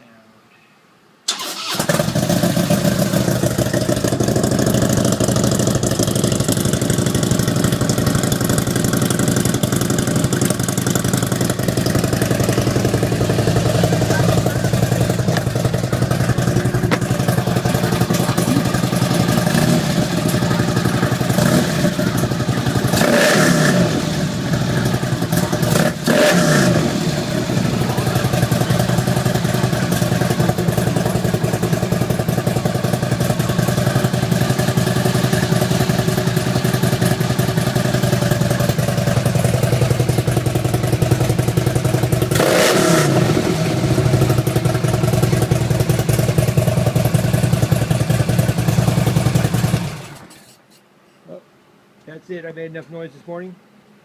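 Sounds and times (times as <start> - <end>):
motorcycle throttle revving: 1.3 - 50.6
motorcycle engine idling: 1.4 - 50.5.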